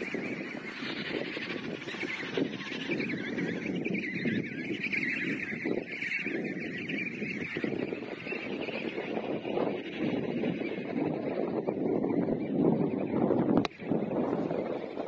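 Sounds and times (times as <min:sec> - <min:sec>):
penguin chicks whistling calls: 0:00.0 - 0:15.0.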